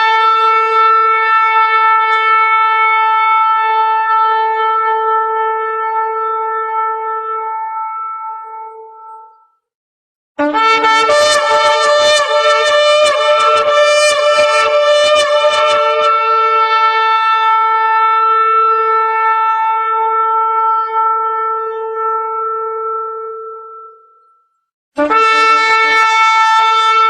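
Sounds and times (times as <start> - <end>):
shofar blowing: 0.0 - 9.4, 10.4 - 24.4, 25.0 - 27.0.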